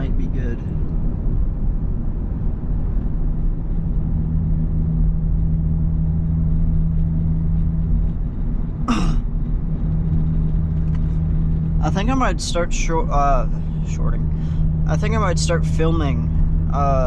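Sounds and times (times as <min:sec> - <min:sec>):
car engine droning: 0:00.0 - 0:17.0
road noise: 0:00.0 - 0:17.0.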